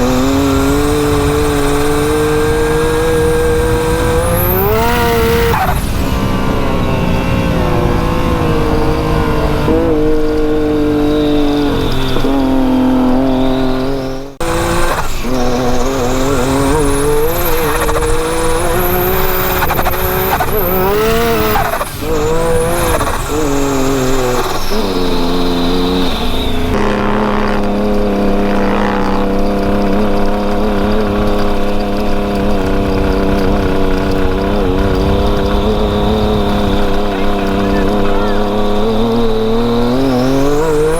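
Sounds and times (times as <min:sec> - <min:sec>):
engine revving: 0:00.0 - 0:40.9.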